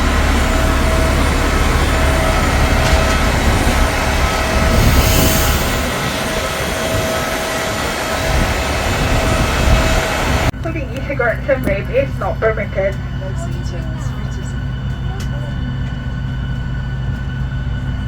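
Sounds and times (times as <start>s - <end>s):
air-conditioning hum: 0.0s - 18.0s
deep cabin rumble: 0.0s - 18.0s.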